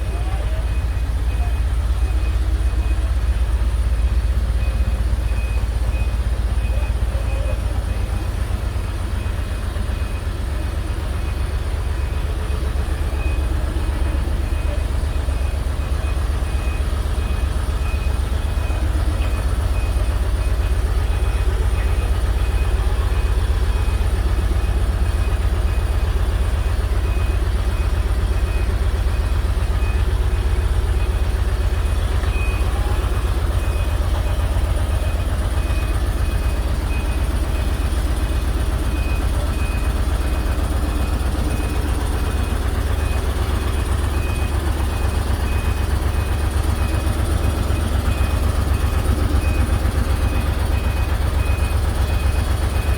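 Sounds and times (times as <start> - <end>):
heavy vehicle rumble: 0.0 - 52.9.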